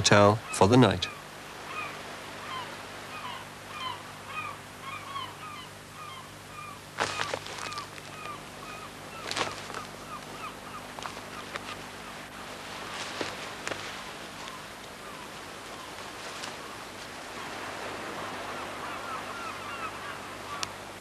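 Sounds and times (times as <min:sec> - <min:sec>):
gulls calling: 0:00.0 - 0:21.0.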